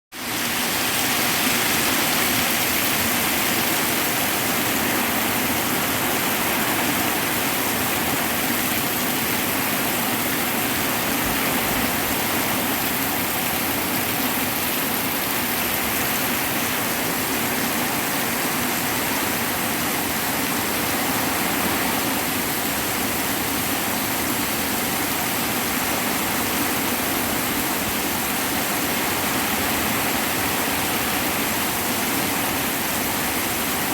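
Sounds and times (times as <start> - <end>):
hard rain falling: 0.2 - 33.9.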